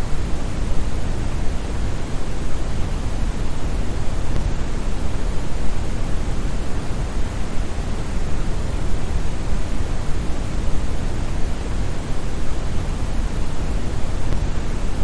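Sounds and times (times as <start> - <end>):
deep brown noise hiss: 0.0 - 15.0.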